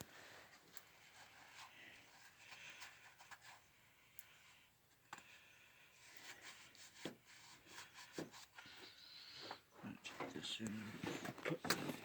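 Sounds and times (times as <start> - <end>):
soft rubbing and scraping: 0.2 - 3.7, 5.9 - 12.0.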